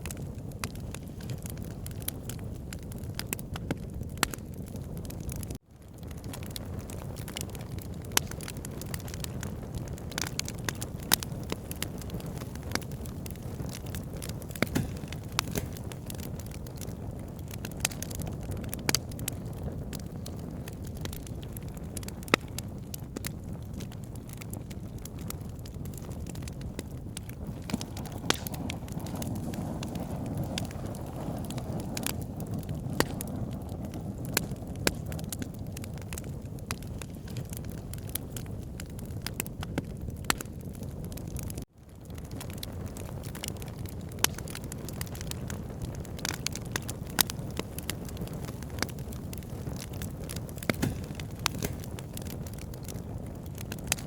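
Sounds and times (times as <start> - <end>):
campfire flames rushing: 0.0 - 54.0
fire crackling and popping: 0.0 - 54.0.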